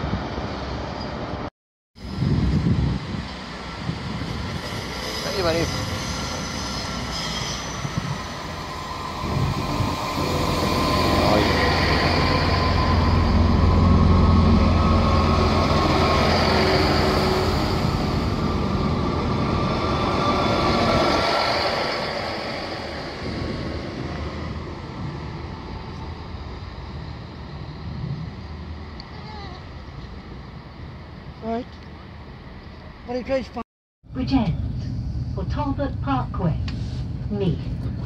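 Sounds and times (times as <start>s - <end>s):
diesel train passing: 0.0s - 38.0s.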